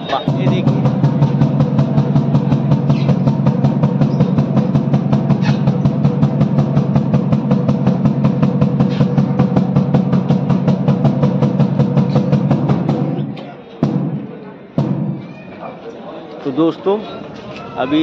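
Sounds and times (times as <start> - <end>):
drum beaten fast: 0.0 - 15.5.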